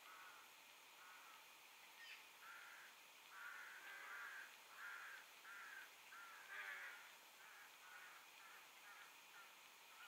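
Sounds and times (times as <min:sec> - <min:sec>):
faint crow cawing: 0:00.0 - 0:10.0.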